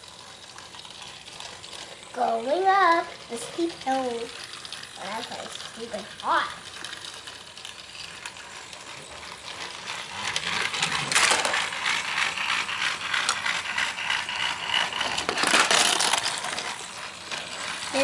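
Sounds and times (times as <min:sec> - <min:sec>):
toy train motor clatter: 0:00.0 - 0:18.0.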